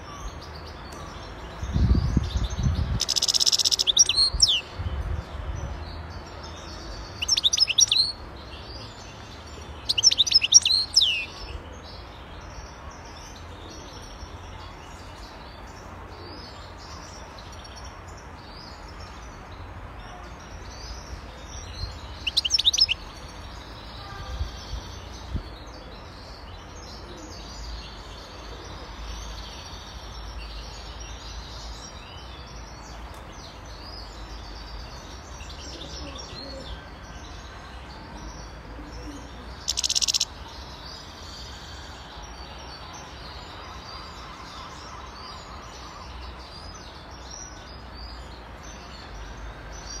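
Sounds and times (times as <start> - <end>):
bird twittering song: 0.0 - 50.0.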